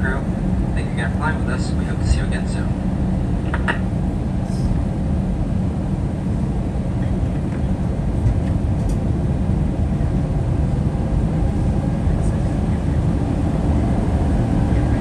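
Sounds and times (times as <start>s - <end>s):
airplane cabin rumble while taxiing: 0.0s - 15.0s.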